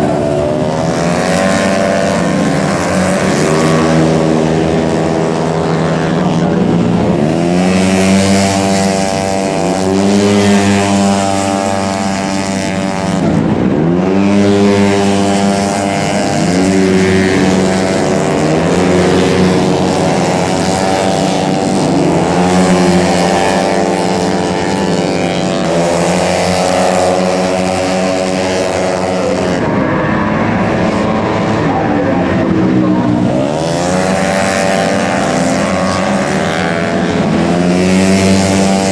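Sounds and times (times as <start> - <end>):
scooter engines revving past: 0.0 - 38.9.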